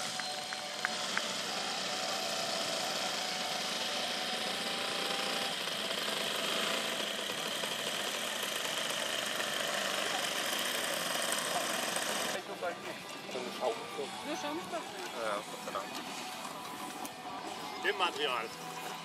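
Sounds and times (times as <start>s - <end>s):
model plane engines running: 0.0s - 19.0s.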